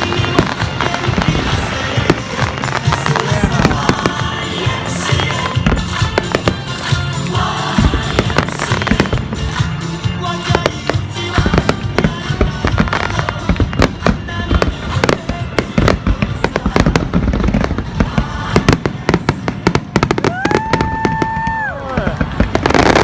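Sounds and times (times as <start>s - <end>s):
fireworks bursting and crackling: 0.0s - 23.0s
pop song over loudspeakers: 0.0s - 23.0s.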